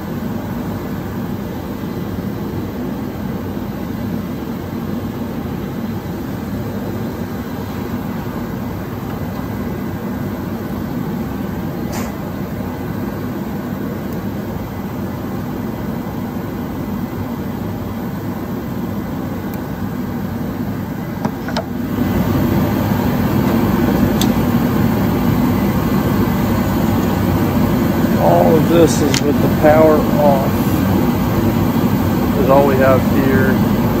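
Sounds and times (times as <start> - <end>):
fan humming: 0.0 - 34.0.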